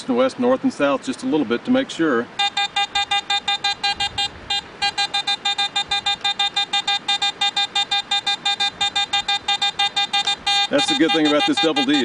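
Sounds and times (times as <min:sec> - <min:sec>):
metal detector beeping: 0:02.4 - 0:12.0.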